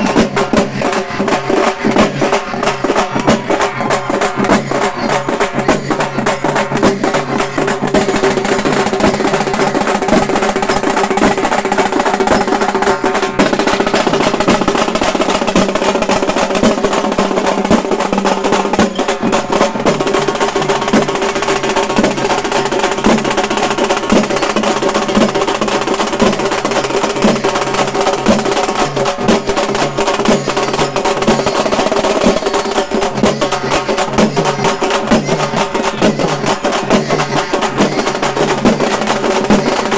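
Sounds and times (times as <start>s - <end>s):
frame drums beaten fast: 0.0s - 39.9s.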